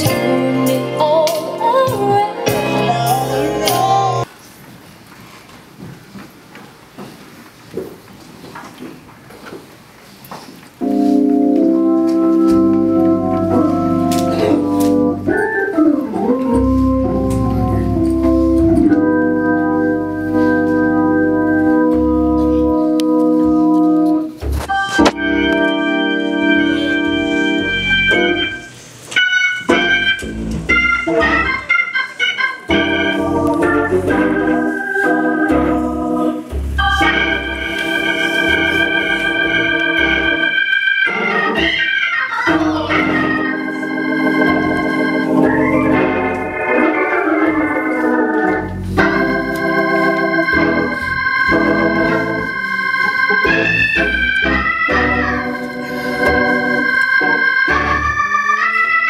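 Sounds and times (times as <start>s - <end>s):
organ music: 0.0s - 4.3s, 10.8s - 59.0s.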